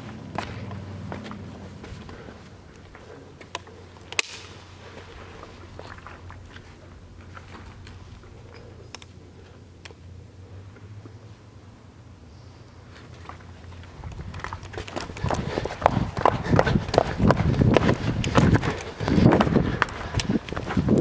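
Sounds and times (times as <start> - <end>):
quiet footsteps: 0.0 - 11.6, 12.4 - 21.0
low steady hum: 0.0 - 21.0.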